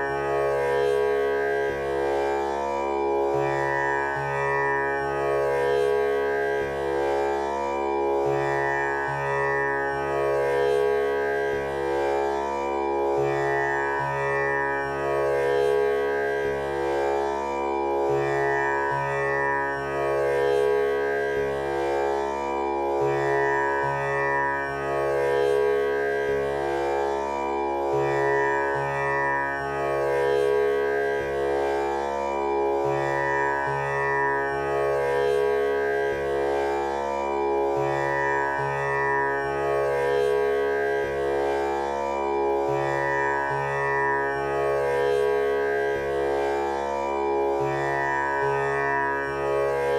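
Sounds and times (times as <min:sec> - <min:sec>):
tanpura drone: 0:00.0 - 0:49.9.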